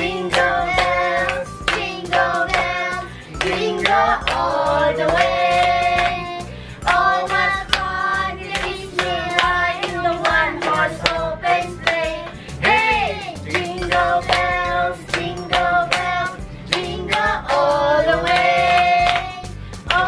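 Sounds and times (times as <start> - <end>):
family singing a carol: 0.0 - 20.0
hands clapping in rhythm: 0.0 - 20.0.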